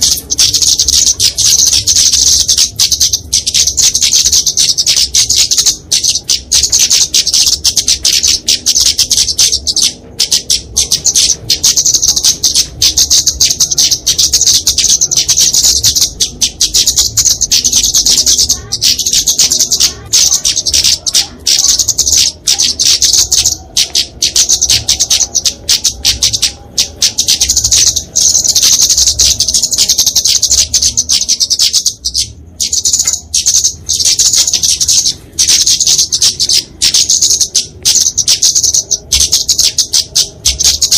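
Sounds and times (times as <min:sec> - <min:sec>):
birds chattering calls: 0:00.0 - 0:40.9.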